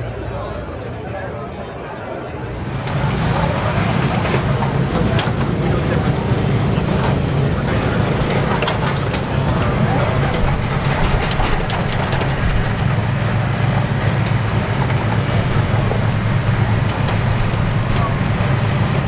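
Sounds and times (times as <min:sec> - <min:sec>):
faint voices: 0:00.0 - 0:19.0
low engine-like hum: 0:00.0 - 0:19.0.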